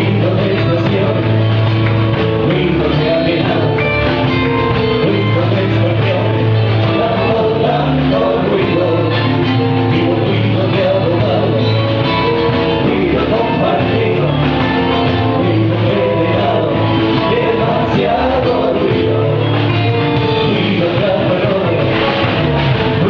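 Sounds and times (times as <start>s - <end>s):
rock band with vocals: 0.0s - 23.0s.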